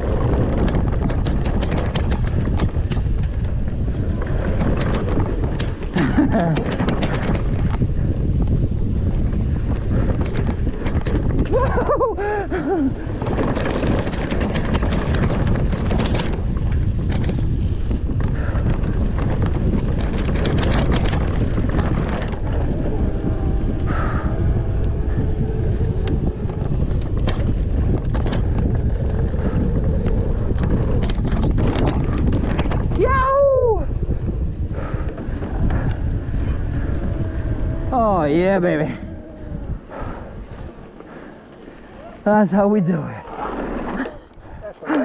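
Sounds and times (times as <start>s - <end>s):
bike rattling clicks: 0.0s - 33.1s, 33.8s - 42.4s
tyres on dirt trail: 0.0s - 45.0s
wind on microphone: 0.0s - 45.0s.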